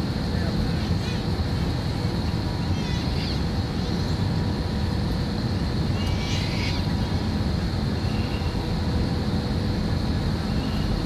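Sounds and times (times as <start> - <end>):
airliner low rumble: 0.0 - 11.0
thin high whine: 0.0 - 11.0.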